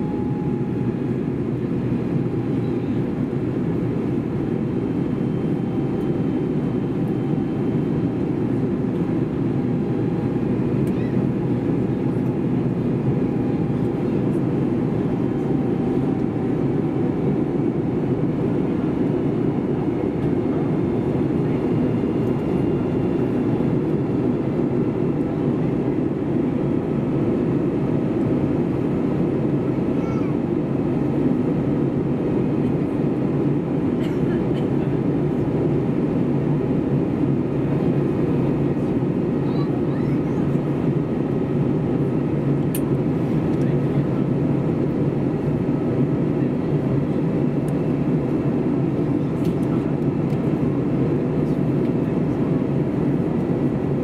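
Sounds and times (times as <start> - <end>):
aircraft cabin engine rush: 0.0 - 54.0.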